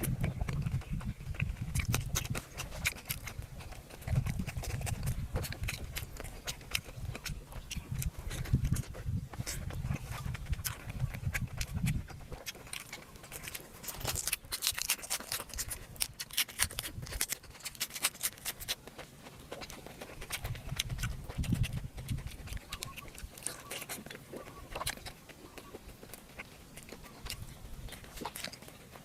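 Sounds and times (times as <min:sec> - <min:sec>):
chewing and mouth smacking: 0:00.0 - 0:29.0.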